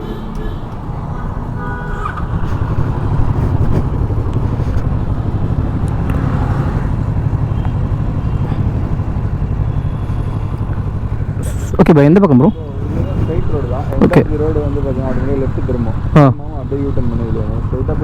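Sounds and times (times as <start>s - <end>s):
street noise: 0.0s - 18.0s
motorcycle engine idling: 2.0s - 18.0s.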